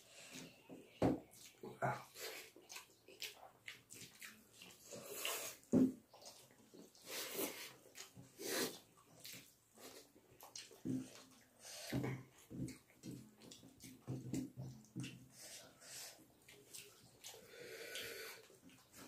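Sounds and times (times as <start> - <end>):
wet chewing and lip-smacking: 0.3 - 19.0.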